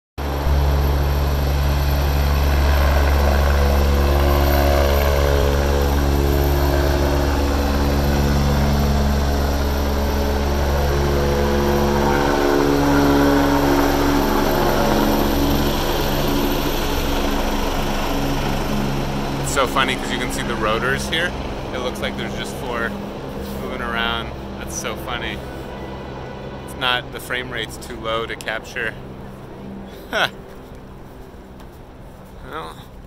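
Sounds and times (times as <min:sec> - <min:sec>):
helicopter rotor and turbine noise: 0:00.2 - 0:33.0.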